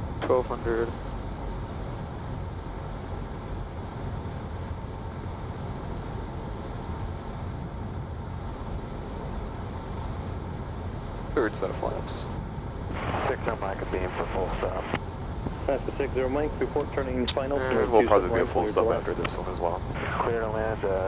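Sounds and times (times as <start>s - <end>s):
faint steady hum: 0.0s - 21.0s
propeller engine drone in cockpit: 0.0s - 21.0s.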